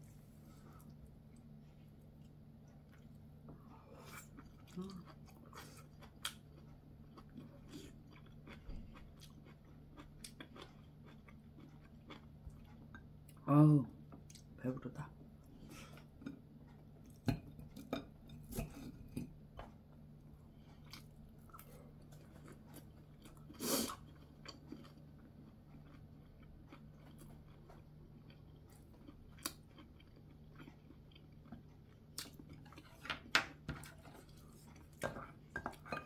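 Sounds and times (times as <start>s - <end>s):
low steady hum: 0.0s - 36.0s
person chewing: 0.3s - 13.4s, 15.8s - 36.0s.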